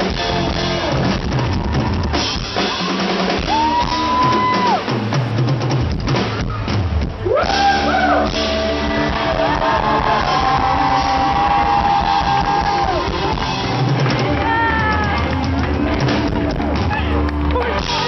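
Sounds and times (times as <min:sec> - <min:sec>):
live pop-rock band playing: 0:00.0 - 0:18.0.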